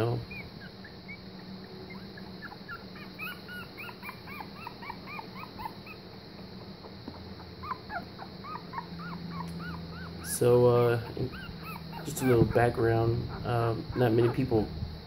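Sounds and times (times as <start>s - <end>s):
puppies squeaking and whimpering: 0.0s - 6.2s, 6.8s - 14.7s.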